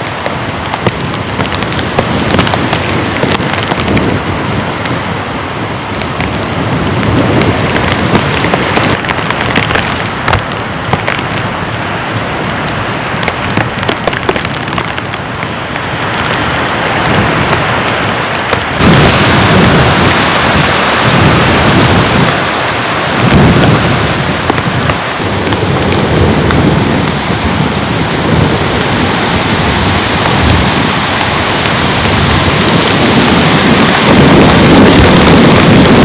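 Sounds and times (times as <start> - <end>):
heavy rain falling: 0.0 - 36.0
deep rumbling: 6.2 - 36.0.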